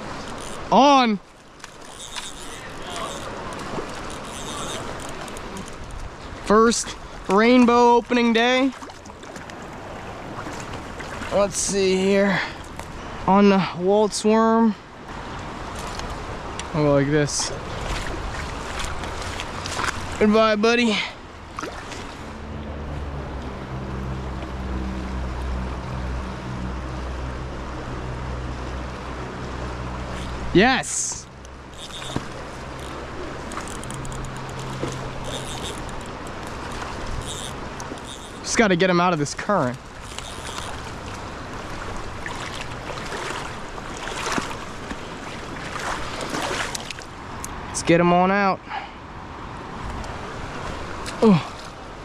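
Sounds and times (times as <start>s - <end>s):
stream rushing: 0.0s - 52.0s.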